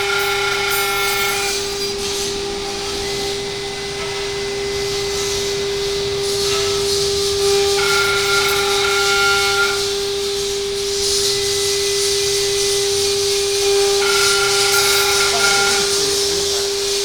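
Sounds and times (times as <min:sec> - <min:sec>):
hiss of wood cutting: 0:00.0 - 0:17.0
router spindle high whine: 0:00.0 - 0:17.0.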